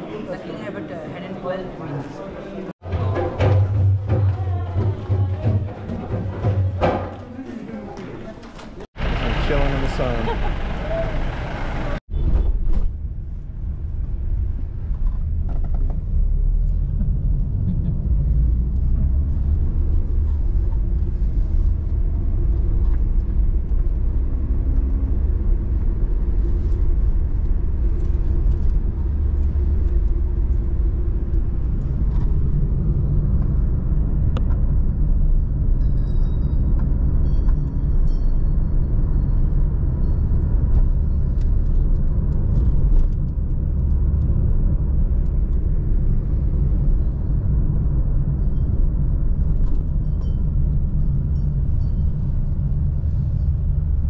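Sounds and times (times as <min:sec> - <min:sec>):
low rumble: 0:09.0 - 0:54.0.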